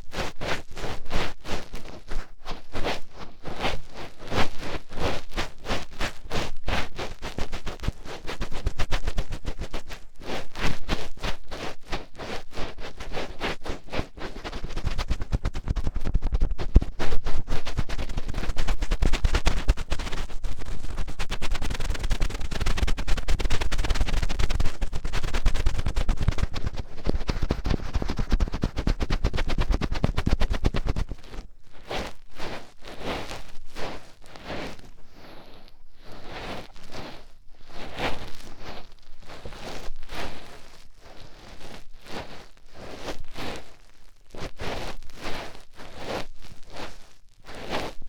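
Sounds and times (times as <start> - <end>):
fingertips scratching microphone: 0.0 - 48.0.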